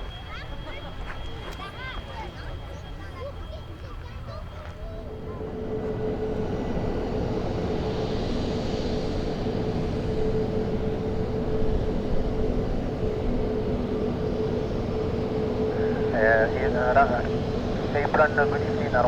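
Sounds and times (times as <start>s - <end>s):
airliner engines running: 0.0s - 19.0s.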